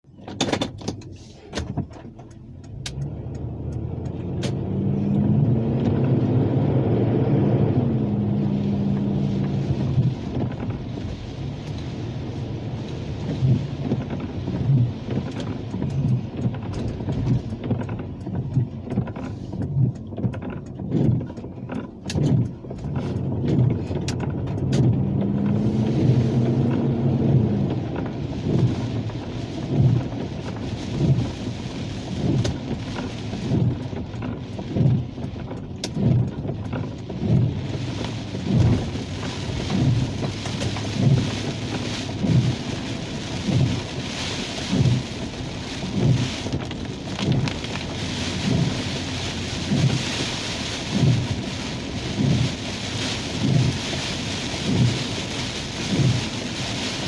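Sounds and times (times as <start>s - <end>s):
rain hissing on car: 0.0s - 57.0s
windshield wipers thumping: 0.0s - 57.0s.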